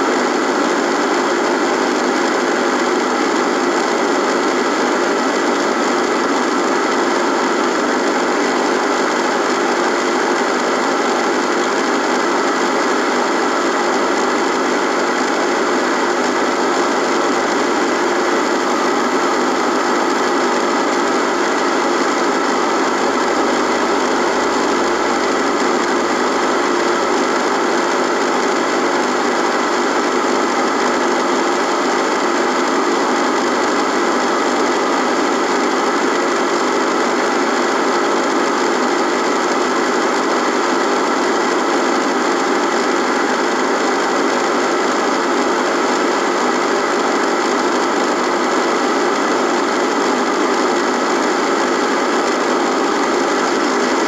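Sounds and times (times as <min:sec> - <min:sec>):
radio buzzing: 0:00.2 - 0:54.0.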